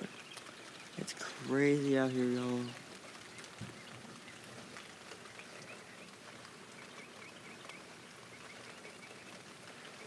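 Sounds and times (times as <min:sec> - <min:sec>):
steady rain hissing: 0:00.0 - 0:10.0.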